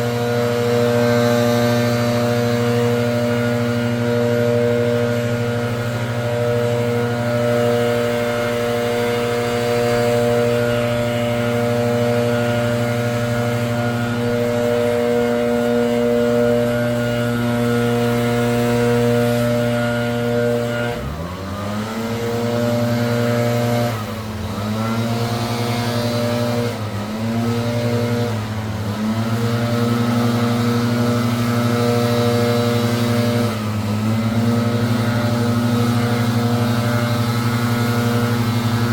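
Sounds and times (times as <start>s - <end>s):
leaf blower engine running: 0.0s - 38.9s.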